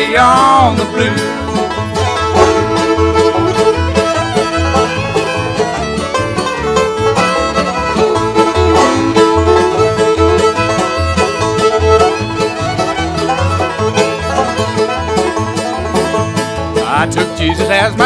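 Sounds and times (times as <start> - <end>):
banjo: 0.0 - 18.0
fiddle melody: 0.0 - 18.0
guitar rhythm: 0.0 - 18.0
upright bass notes: 0.0 - 18.0.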